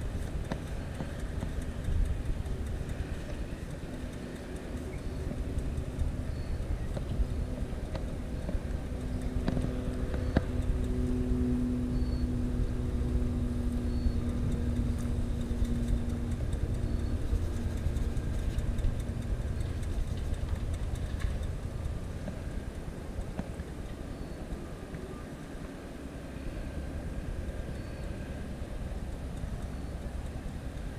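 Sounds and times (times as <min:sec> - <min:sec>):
road traffic rumble: 0:00.0 - 0:30.9
vehicle engine drone: 0:00.0 - 0:30.9.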